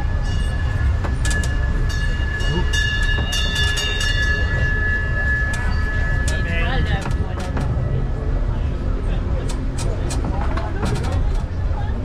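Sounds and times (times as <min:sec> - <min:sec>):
road train low rumble: 0:00.0 - 0:12.0.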